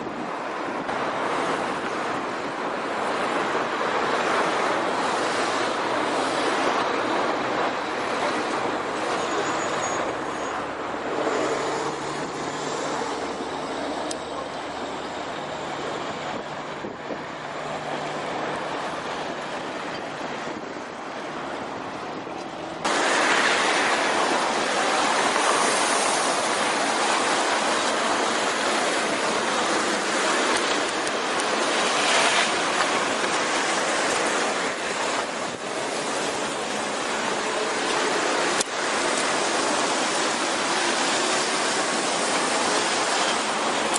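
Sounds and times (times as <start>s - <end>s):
truck engine hum: 0.0s - 43.9s
tyre and wind noise: 0.0s - 43.9s.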